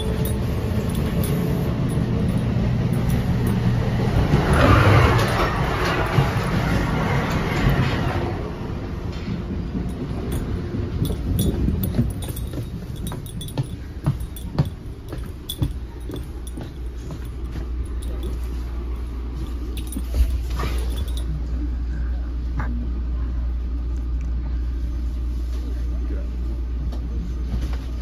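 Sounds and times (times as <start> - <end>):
train rumble: 0.0 - 28.0.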